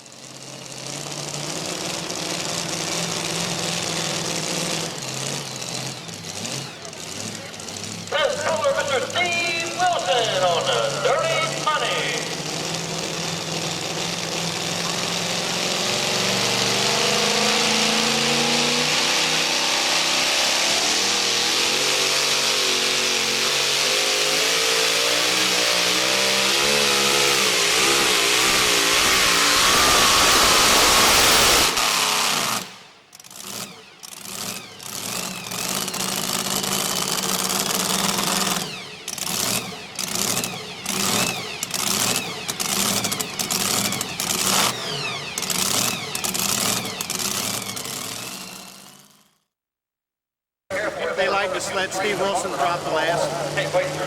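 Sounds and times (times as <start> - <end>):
truck engine running wide open: 0.0 - 49.3, 50.7 - 54.0
engine revving in short bursts: 0.3 - 49.4.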